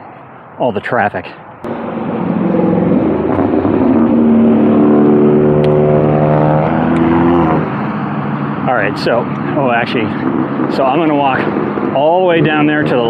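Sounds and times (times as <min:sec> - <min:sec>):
traffic noise rushing: 0:00.0 - 0:13.0
vehicle engine driving past: 0:01.7 - 0:12.6.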